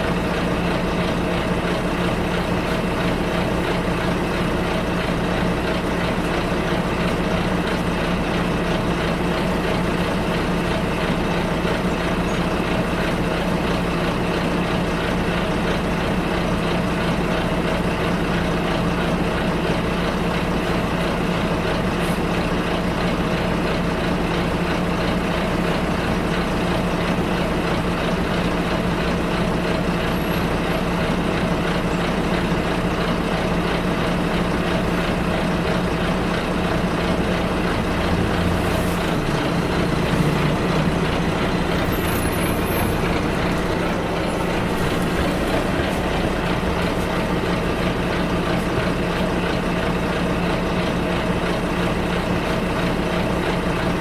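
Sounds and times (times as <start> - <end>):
bus engine hum: 0.0 - 54.0.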